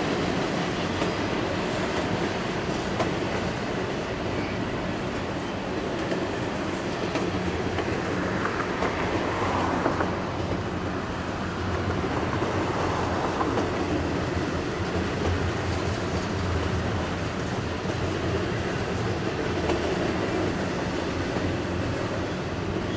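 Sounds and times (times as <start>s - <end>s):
freight train wheels rumbling: 0.0s - 22.9s.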